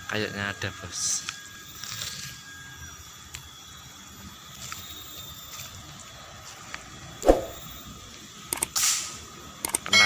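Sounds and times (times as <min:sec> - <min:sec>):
faint outdoor background noise: 0:00.0 - 0:10.0.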